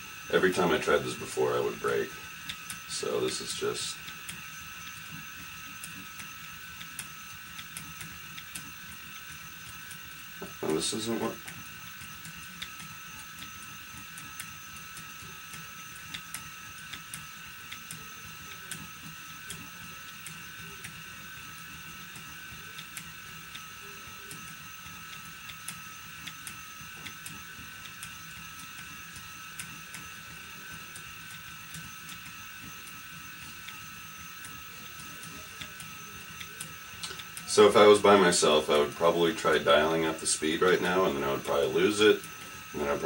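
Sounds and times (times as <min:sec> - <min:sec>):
electric spinning wheel whirring: 0:00.0 - 0:43.0
light clicks of spinning: 0:00.2 - 0:43.0.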